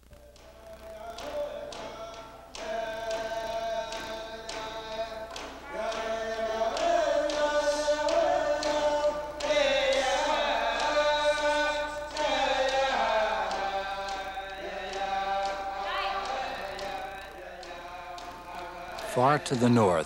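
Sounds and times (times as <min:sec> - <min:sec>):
voices singing or chanting: 0:00.1 - 0:20.0.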